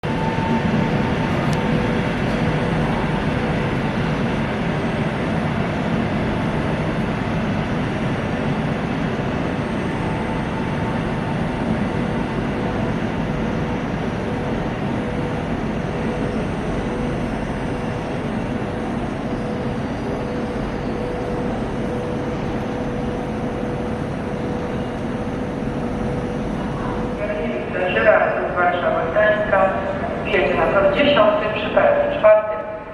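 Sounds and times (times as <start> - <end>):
constant hum: 0.0 - 32.9
electric train rumble: 0.0 - 32.9.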